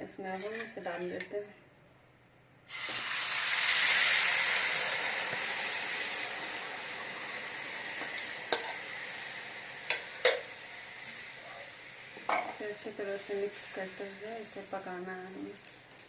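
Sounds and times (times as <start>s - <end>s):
batter sizzling in hot oil: 2.7s - 16.0s.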